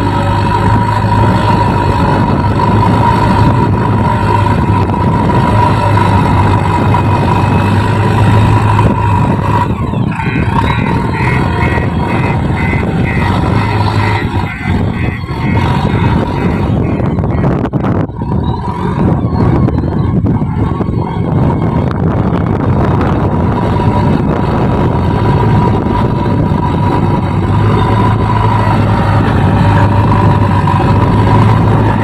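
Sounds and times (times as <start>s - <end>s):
diesel engine humming: 0.0s - 32.0s
high-pitched pulsing: 0.0s - 32.0s.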